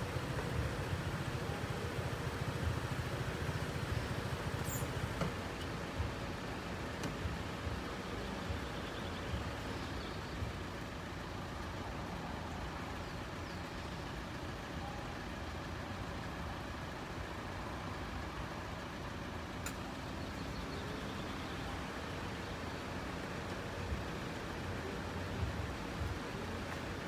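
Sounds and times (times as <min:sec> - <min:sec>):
vehicles idling: 0:00.0 - 0:27.0.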